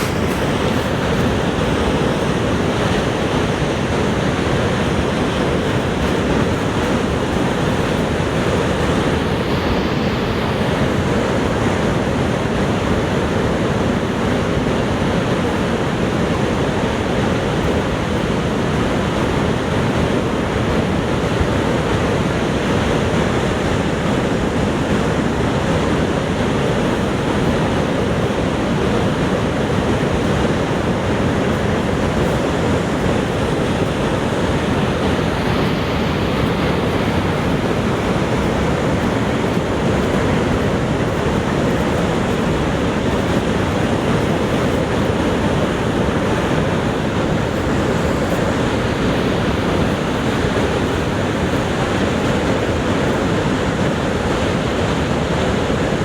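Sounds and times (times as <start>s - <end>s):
waterfall rushing: 0.0s - 19.0s, 26.0s - 56.0s.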